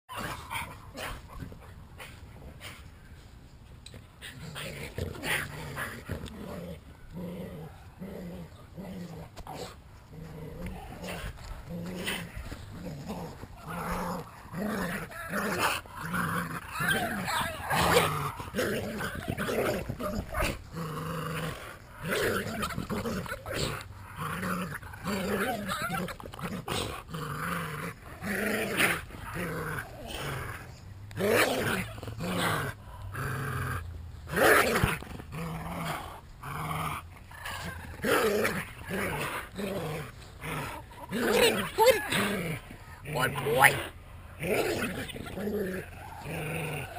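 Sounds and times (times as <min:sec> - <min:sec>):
dogs play-growling: 0:03.8 - 0:46.9.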